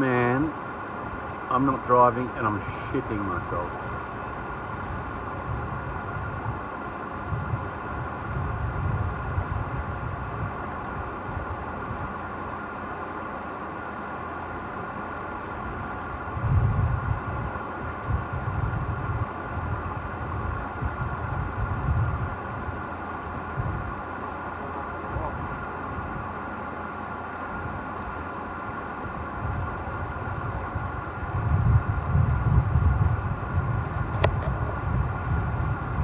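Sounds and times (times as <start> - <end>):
low engine rumbles: 0.0 - 36.0
vehicle engine running: 0.0 - 36.0.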